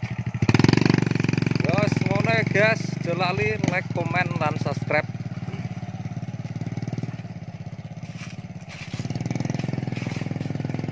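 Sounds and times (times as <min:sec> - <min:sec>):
small motorcycle engine running: 0:00.0 - 0:10.9.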